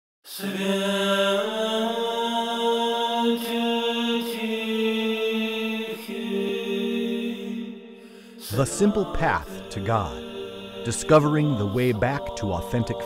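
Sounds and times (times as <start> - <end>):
slow choral chant: 0.3 - 13.0.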